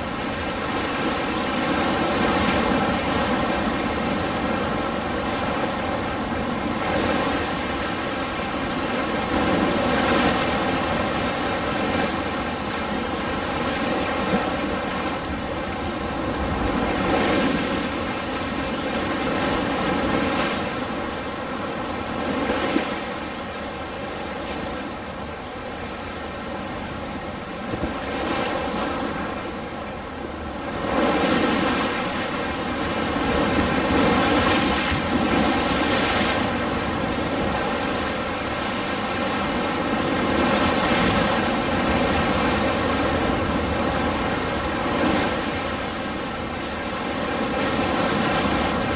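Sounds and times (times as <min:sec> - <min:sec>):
ocean waves breaking: 0:00.0 - 0:48.9.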